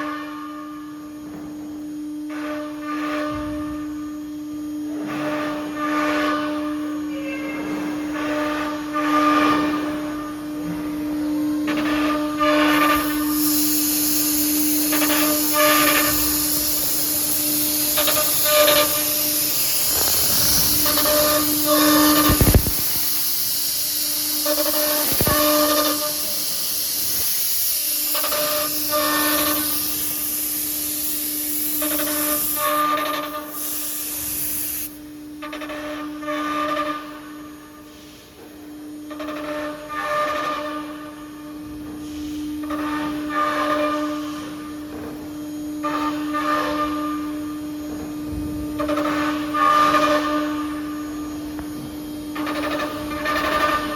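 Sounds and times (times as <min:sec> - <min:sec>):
router spindle whine and hiss: 0:03.2 - 0:53.9.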